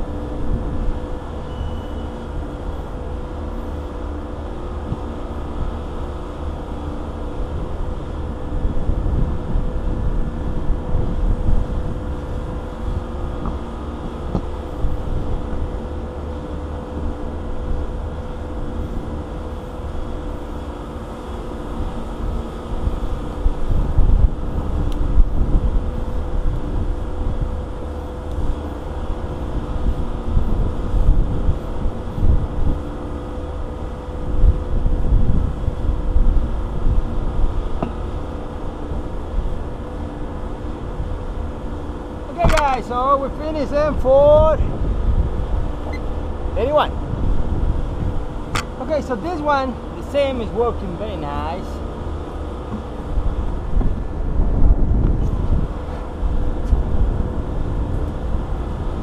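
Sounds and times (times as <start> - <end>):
steady machine hum: 0.0 - 59.0
wind rumble on microphone: 0.0 - 59.0.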